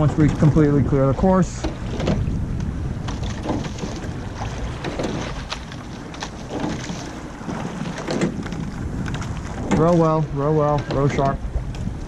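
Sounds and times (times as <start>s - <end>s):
water rushing along hull: 0.0s - 12.0s
wind on microphone: 0.0s - 12.0s
oars knocking in oarlocks: 1.6s - 11.9s.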